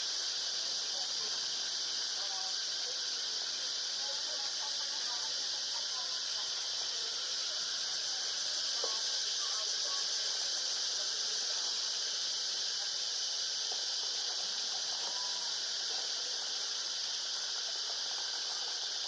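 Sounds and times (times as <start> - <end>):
high-pitched hiss: 0.0 - 19.0.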